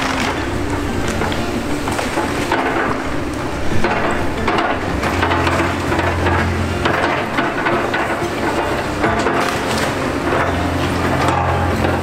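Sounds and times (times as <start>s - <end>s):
diesel excavator engines droning: 0.0s - 12.0s
wood clattering and cracking: 0.0s - 12.0s.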